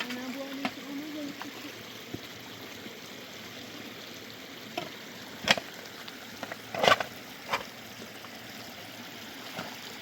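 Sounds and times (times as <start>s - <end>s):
rain and running water: 0.0s - 10.0s.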